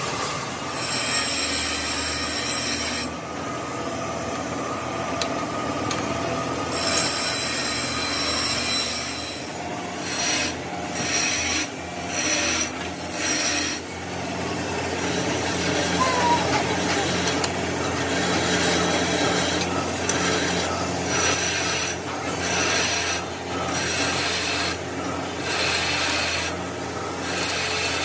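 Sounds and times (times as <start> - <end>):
metal lathe turning: 0.4 - 16.0, 16.6 - 28.0
cutting tool squealing on metal: 0.7 - 3.2, 6.6 - 28.0.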